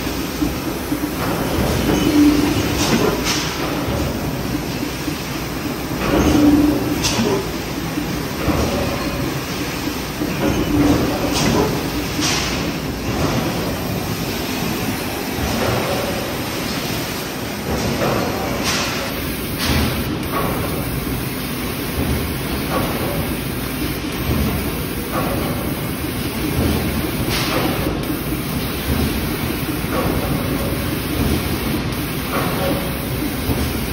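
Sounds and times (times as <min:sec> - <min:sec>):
industrial machinery rumble: 0:00.0 - 0:33.9
machinery clanking: 0:00.0 - 0:33.9.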